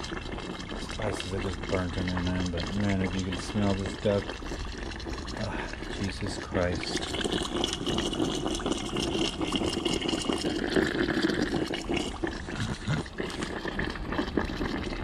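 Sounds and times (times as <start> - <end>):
oil bubbling and sizzling: 0.0 - 15.0.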